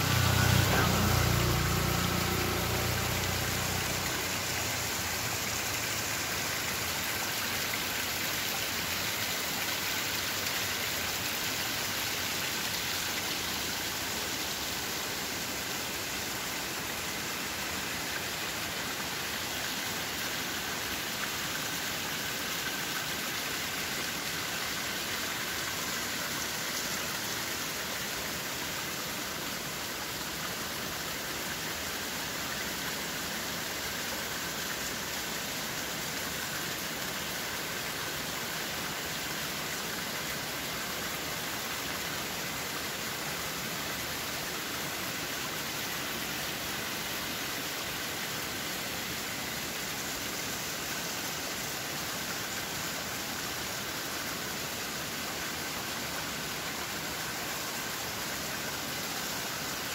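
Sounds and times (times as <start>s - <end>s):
waterfall splashing on rock: 0.0s - 59.9s.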